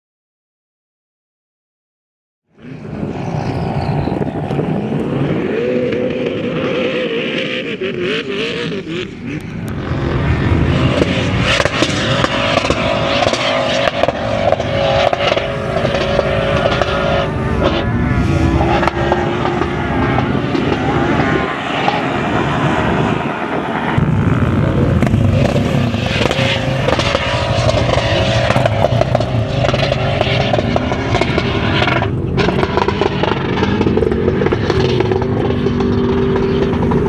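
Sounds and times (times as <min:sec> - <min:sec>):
suv engine revving hard: 0:03.5 - 0:37.0.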